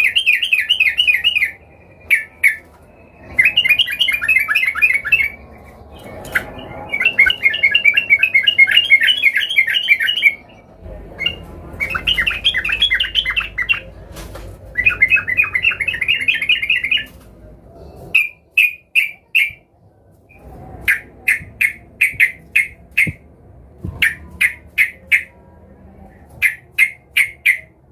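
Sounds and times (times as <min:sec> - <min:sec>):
bulbul chattering song: 0:00.0 - 0:14.0, 0:14.7 - 0:17.2, 0:18.0 - 0:19.7, 0:20.3 - 0:23.3, 0:24.0 - 0:25.4, 0:26.4 - 0:27.9.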